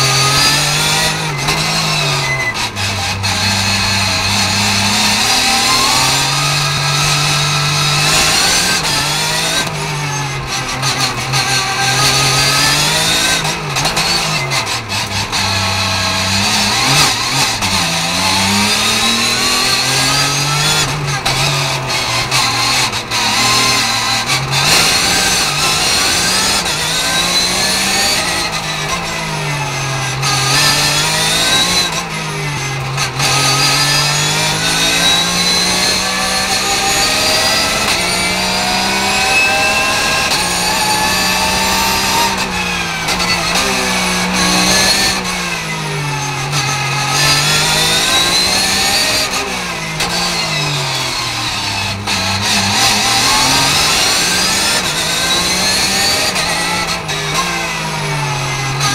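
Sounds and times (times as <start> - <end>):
quick gearshifts: 0.0 - 58.9
racing car engine revving: 0.0 - 58.9.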